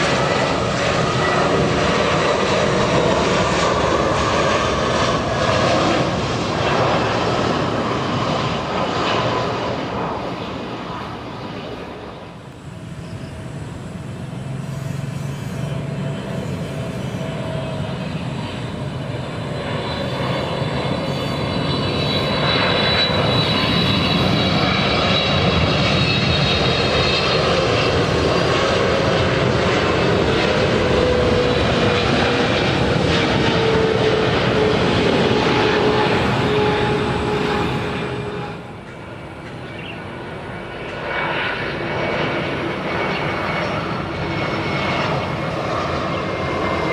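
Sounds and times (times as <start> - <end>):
jet airliner engines whining: 0.0 - 46.9.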